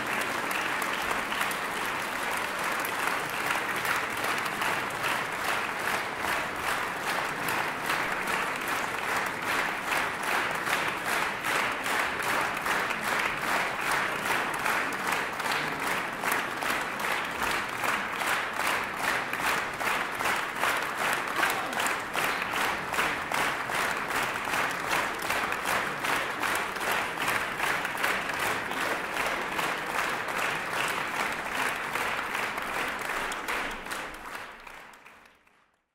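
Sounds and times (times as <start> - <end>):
audience applauding: 0.0 - 35.9.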